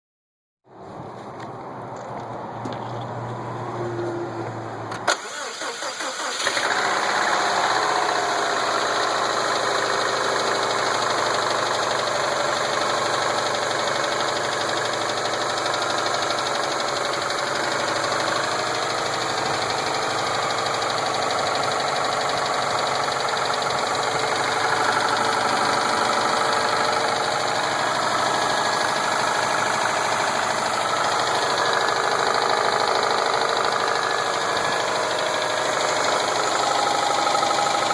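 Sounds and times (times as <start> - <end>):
engine cranking: 5.0 - 37.9
car engine running: 6.5 - 37.9.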